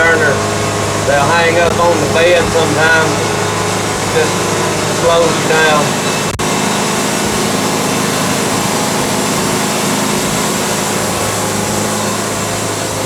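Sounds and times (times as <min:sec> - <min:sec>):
band sawmill cutting log: 0:00.0 - 0:13.0.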